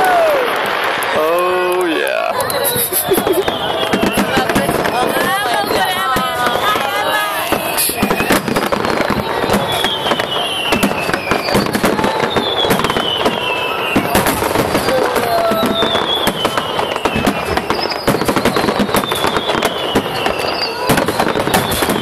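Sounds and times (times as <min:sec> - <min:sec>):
fireworks cracking and banging: 0:00.0 - 0:22.0
falling firework whistles: 0:02.0 - 0:22.0.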